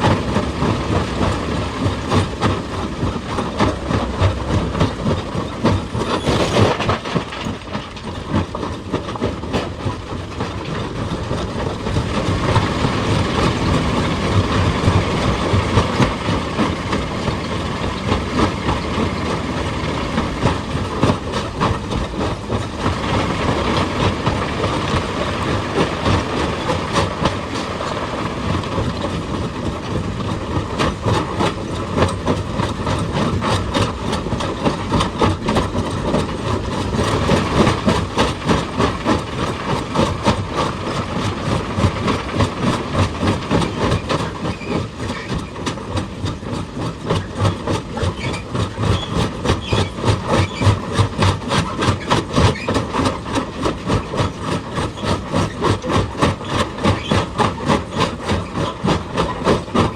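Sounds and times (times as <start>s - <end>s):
hydraulic breaker hammering rock: 0.0s - 59.9s
machine engine running: 0.0s - 59.9s.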